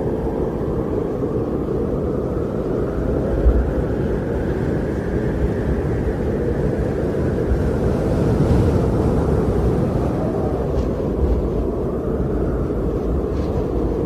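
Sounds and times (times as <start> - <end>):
wind rushing rumble: 0.0 - 14.0.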